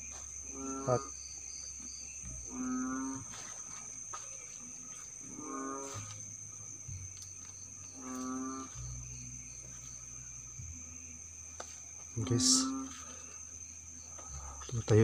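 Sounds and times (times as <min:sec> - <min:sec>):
high insect buzz: 0:00.0 - 0:15.0.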